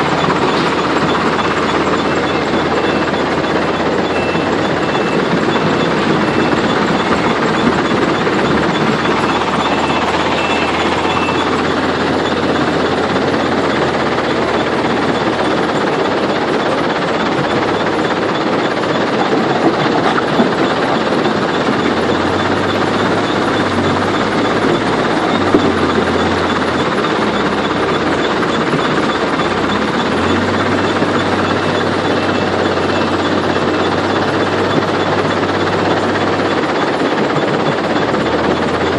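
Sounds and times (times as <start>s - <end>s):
heavy machinery clatter: 0.0s - 38.9s
low engine hum: 0.0s - 38.9s.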